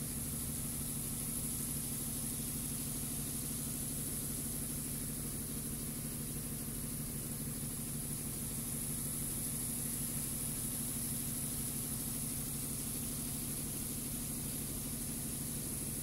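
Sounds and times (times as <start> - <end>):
machine hum with high hiss: 0.0 - 16.0.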